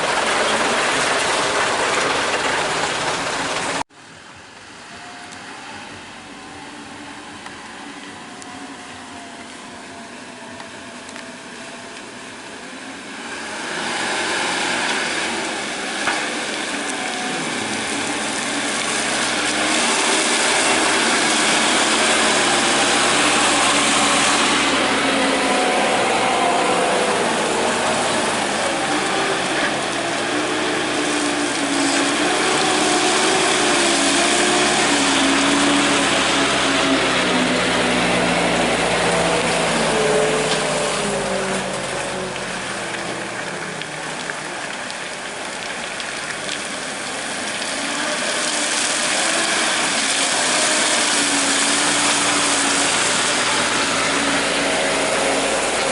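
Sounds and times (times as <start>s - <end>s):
truck diesel engine revving: 0.0s - 3.9s, 10.6s - 55.9s.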